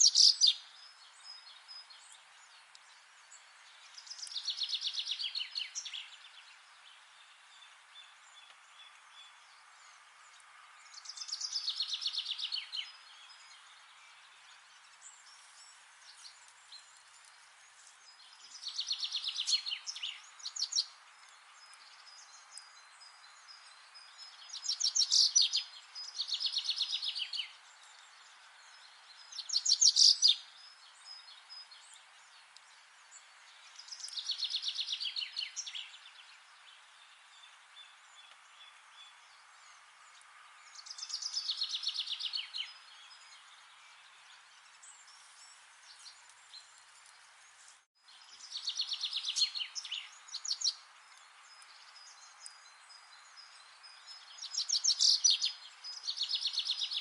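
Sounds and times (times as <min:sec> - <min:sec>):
faint steady hiss: 0:00.0 - 0:57.0
songbird singing: 0:00.0 - 0:57.0.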